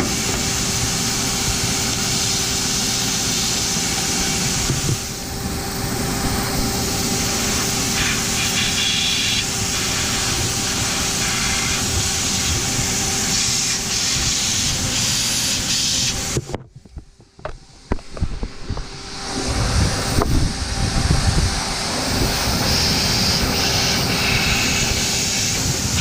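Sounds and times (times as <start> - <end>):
vacuum cleaner blowing air: 0.0 - 16.5, 18.6 - 26.0.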